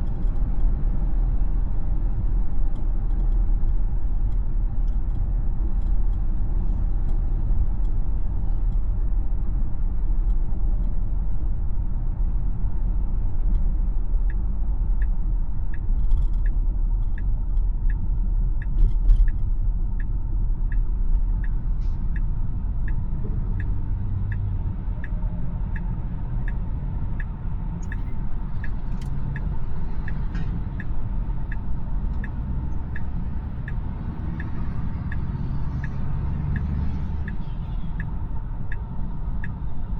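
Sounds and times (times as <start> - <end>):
turn signal ticking: 0.0 - 39.9.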